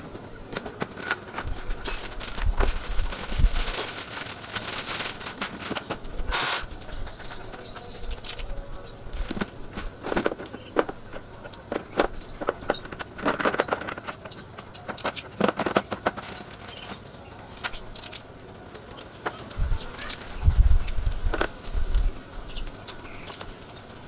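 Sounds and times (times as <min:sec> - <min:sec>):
hard objects clicking and clattering: 0:00.0 - 0:21.6.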